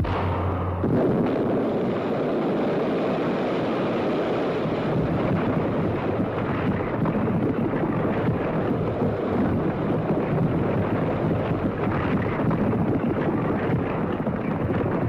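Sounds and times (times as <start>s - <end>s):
explosion and falling rock rumble: 0.0s - 15.0s.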